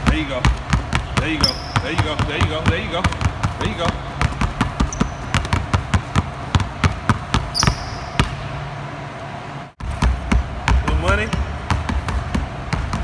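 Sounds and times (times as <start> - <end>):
basketballs bouncing on wooden floor: 0.0 - 8.5, 9.8 - 13.0.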